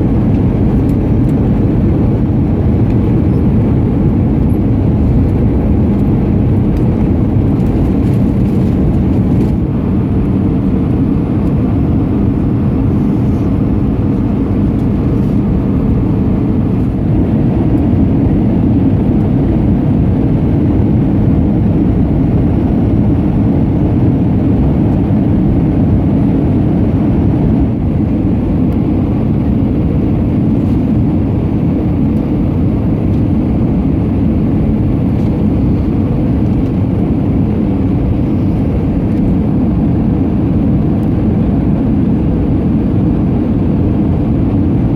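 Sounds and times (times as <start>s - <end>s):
jet engine and airflow roar: 0.0s - 44.9s.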